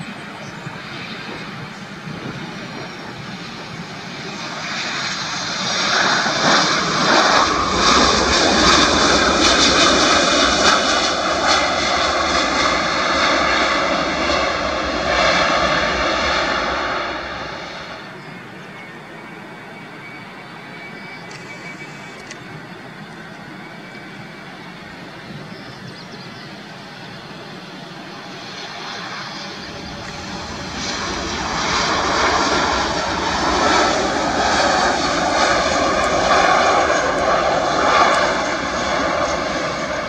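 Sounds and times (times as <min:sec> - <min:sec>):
jet engines roaring and whining: 0:00.0 - 0:40.0.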